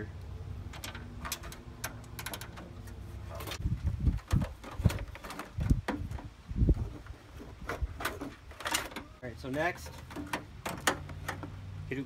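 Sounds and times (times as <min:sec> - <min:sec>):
hand tools clicking and knocking: 0:00.7 - 0:11.6.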